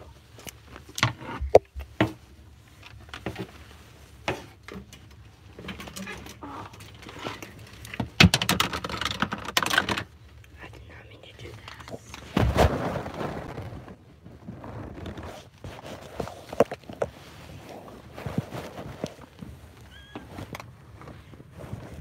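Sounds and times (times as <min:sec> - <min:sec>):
rustling handling noise: 0:00.0 - 0:22.0.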